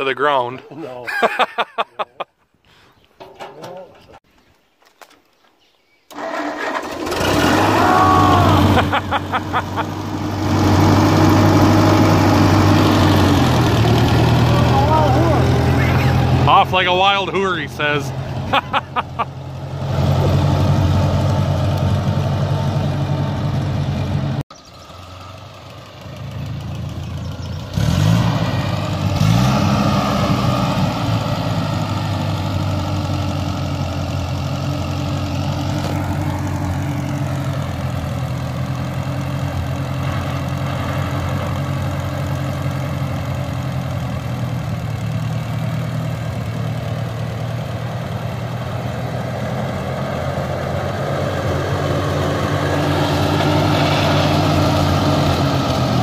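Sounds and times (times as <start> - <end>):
farm vehicle engine: 6.1 - 56.0.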